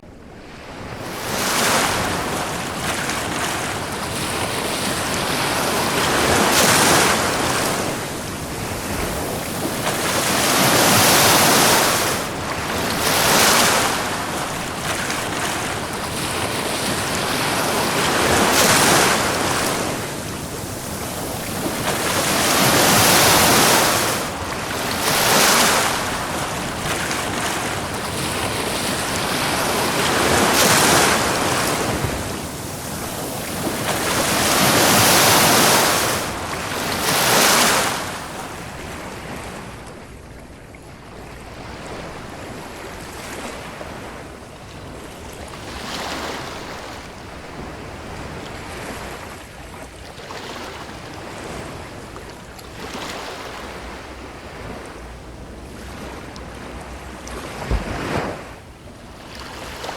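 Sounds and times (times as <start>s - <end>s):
waves breaking on beach: 0.3s - 59.9s.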